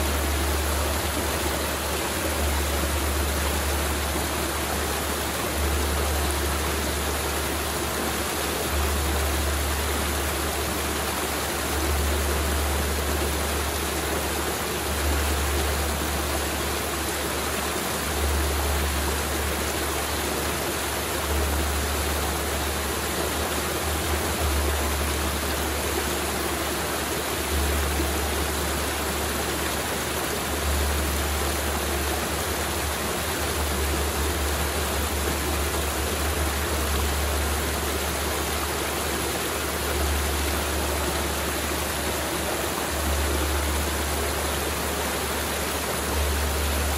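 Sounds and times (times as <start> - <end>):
mountain river flowing: 0.0 - 46.9.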